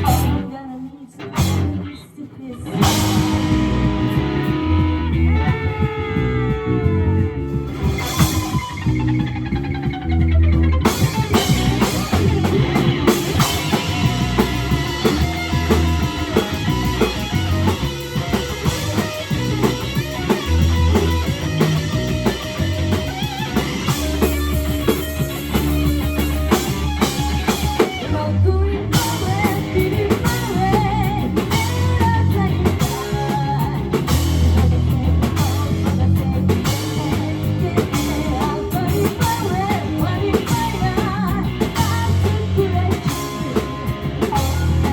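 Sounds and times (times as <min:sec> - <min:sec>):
rock band playing live: 0:00.0 - 0:44.9.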